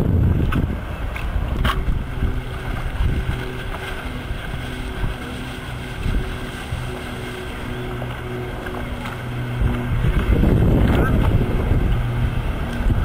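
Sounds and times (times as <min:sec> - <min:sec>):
boat engine humming: 0:00.0 - 0:13.0
wind rumbling on microphone: 0:00.0 - 0:13.0.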